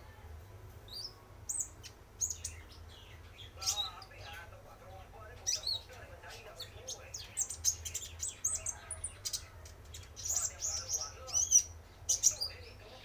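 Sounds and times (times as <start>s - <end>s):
sunbird high chirps and trills: 0.9s - 4.4s, 5.4s - 13.0s.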